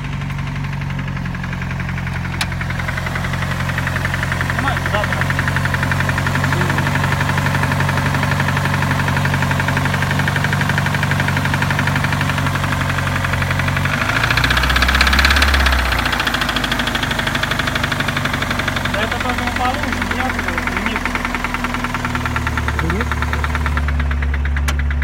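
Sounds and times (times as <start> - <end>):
car engine knocking: 0.0 - 25.0.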